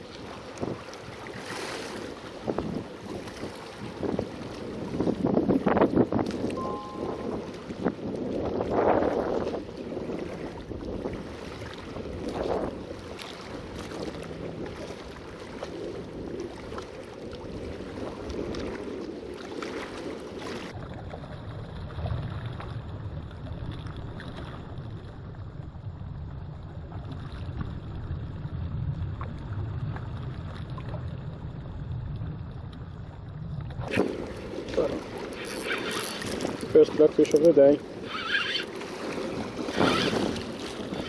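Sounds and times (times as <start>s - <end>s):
water at rocky shoreline: 0.0s - 41.0s
wind rumbling on microphone: 0.0s - 41.0s.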